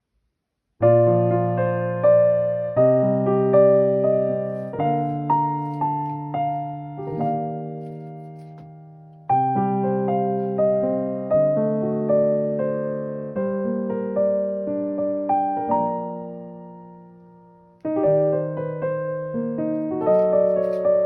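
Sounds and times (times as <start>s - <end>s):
gentle electric piano music: 0.8s - 21.0s.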